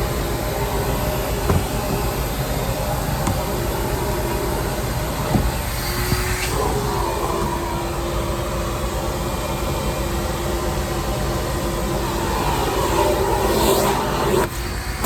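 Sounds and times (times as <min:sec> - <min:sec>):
shop vac droning: 0:00.0 - 0:15.0.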